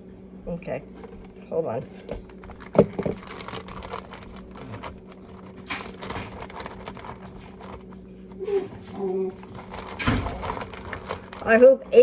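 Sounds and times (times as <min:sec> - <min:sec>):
electrical appliance hum: 0:00.0 - 0:12.0
kitchen items clicking and rustling: 0:01.2 - 0:12.0.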